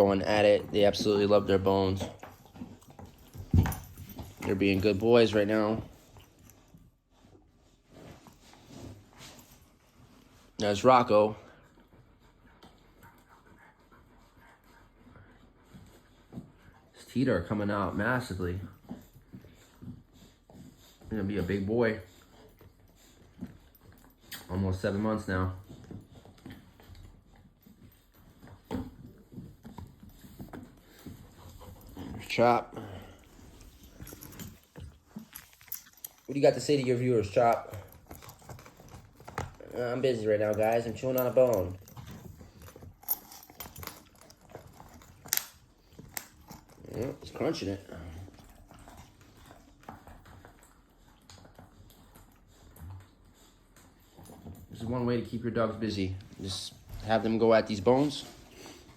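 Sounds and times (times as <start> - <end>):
dogs gnawing on bones: 0.0 - 58.9.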